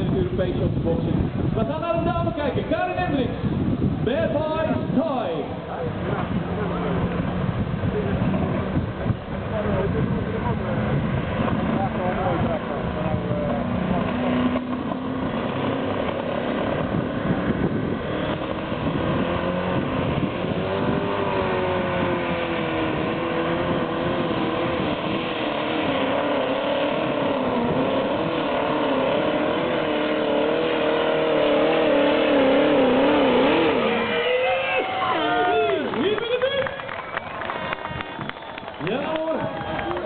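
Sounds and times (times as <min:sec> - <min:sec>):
tractor engine at full power: 0:00.0 - 0:40.0.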